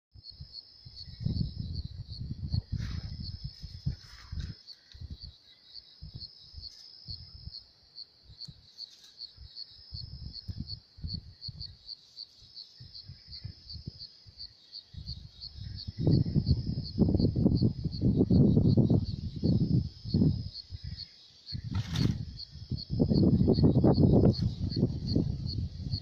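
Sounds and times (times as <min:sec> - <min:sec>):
cricket chirping: 0:00.2 - 0:26.0.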